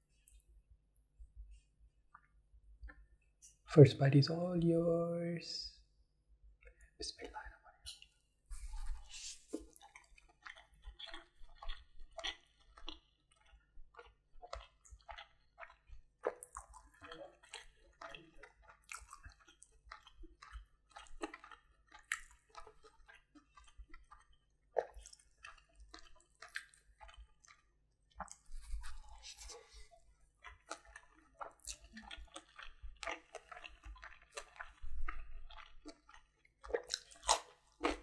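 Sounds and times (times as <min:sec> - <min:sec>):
wet chewing: 0:06.6 - 0:38.0.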